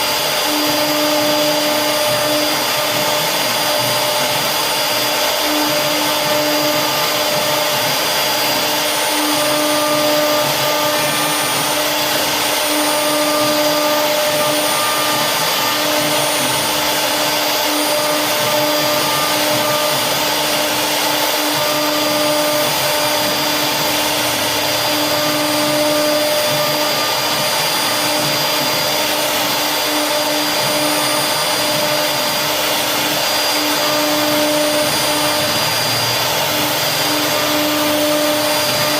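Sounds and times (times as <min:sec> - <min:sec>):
hiss of carving wood: 0:00.0 - 0:38.9
router spindle whine: 0:00.0 - 0:38.9.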